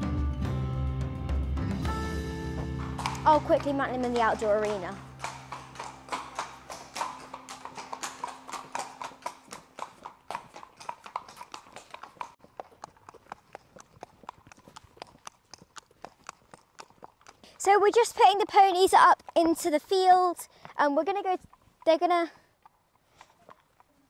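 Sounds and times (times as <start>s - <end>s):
hooves clip-clopping on hard ground: 1.8s - 24.0s.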